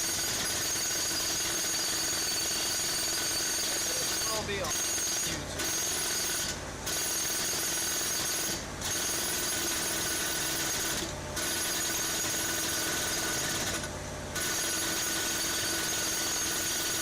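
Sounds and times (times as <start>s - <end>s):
jackhammer hammering: 0.0s - 17.0s.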